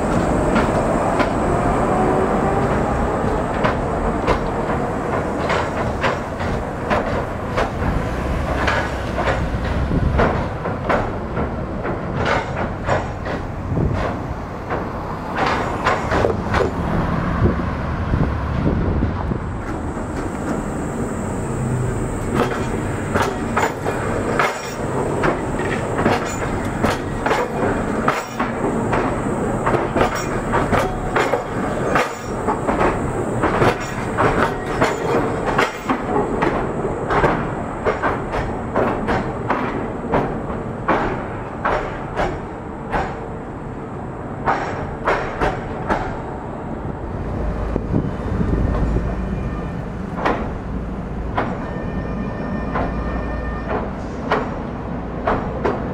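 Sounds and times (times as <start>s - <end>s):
low rumble of approaching tram: 0.0s - 55.9s
tram wheels clattering over track: 0.0s - 55.9s.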